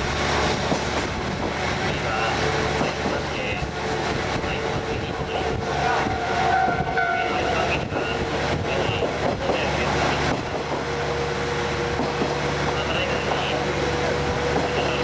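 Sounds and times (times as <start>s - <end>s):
train engine and wheels rumbling: 0.0s - 15.0s.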